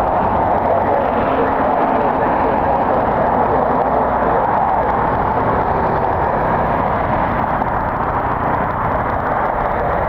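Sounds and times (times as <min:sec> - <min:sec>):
jet engines roaring: 0:00.0 - 0:10.0
wind buffeting microphone: 0:00.0 - 0:10.0.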